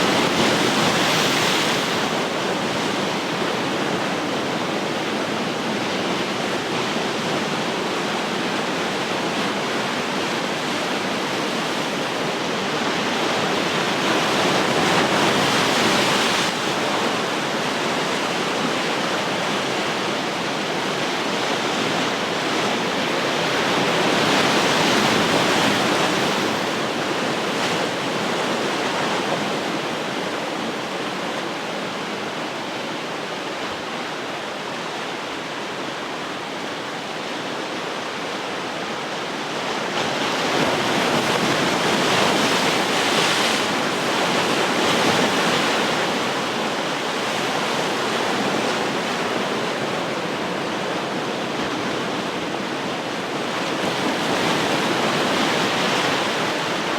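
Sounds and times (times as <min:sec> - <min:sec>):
waves breaking on shore: 0:00.0 - 0:56.9.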